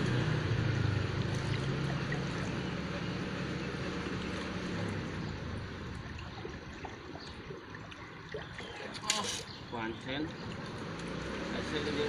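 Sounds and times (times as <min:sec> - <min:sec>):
low engine hum: 0:00.0 - 0:12.0
water flowing in a drain: 0:00.0 - 0:12.0.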